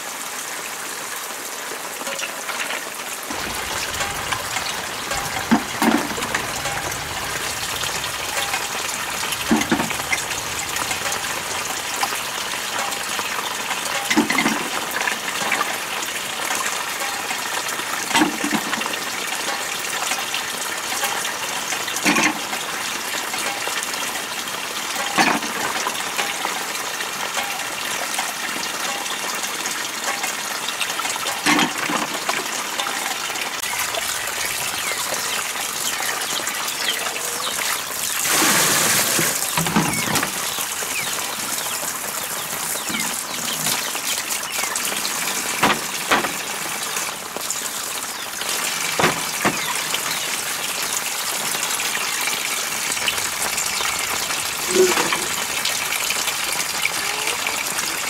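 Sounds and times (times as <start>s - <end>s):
water running from a hose: 0.0s - 58.0s.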